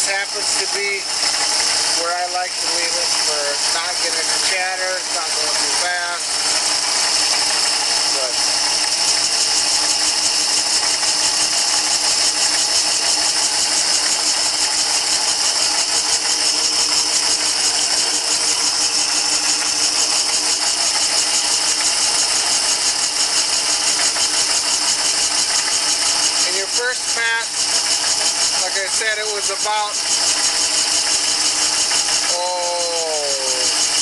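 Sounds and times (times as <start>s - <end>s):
boring bar motor whirring: 0.0s - 34.0s.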